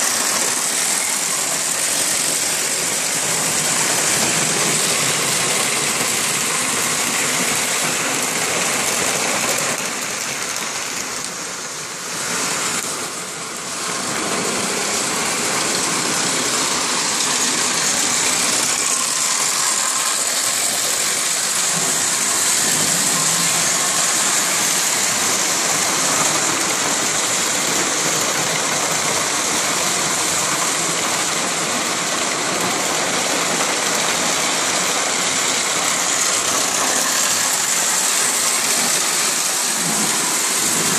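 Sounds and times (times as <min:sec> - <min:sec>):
model trains running on track: 0:00.0 - 0:40.9.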